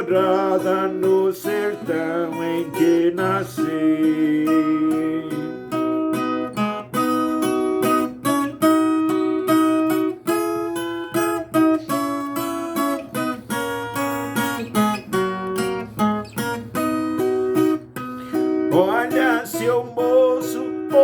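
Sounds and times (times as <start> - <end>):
plucked and strummed guitar: 0.0 - 21.0.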